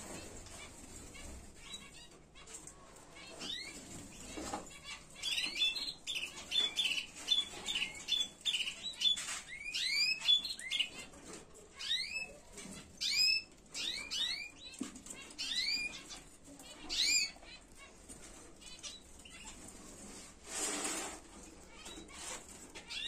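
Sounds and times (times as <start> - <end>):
canaries calling: 0.0 - 23.0.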